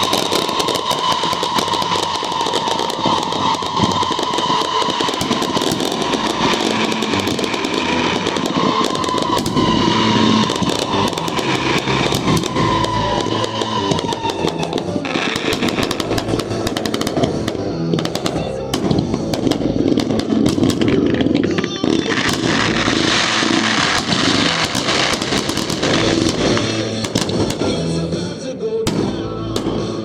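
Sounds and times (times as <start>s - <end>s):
fireworks bangs and crackles: 0.0s - 30.0s
music playing: 0.0s - 30.0s.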